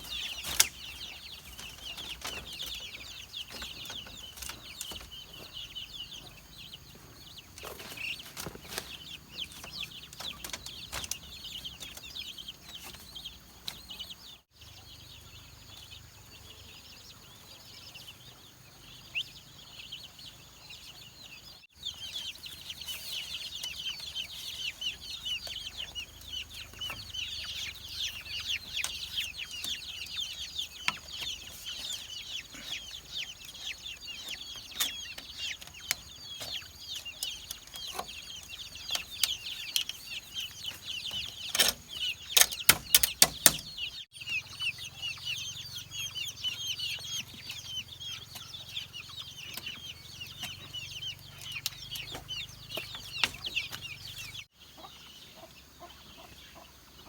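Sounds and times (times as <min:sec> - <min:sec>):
chickens peeping and clucking: 0:00.0 - 0:57.0.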